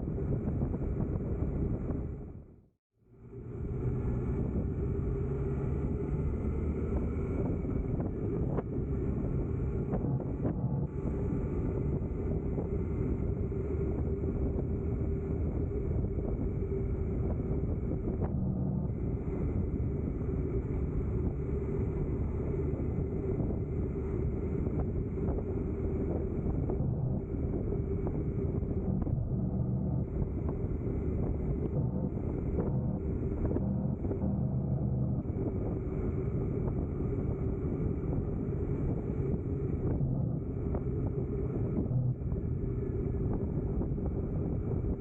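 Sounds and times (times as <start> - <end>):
wind noise on microphone: 0.0 - 2.6, 3.3 - 45.0
vehicle engine droning: 3.1 - 45.0.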